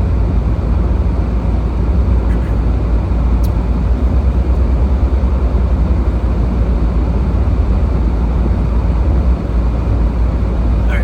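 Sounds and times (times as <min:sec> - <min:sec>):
car engine rumble and road noise: 0:00.0 - 0:11.0.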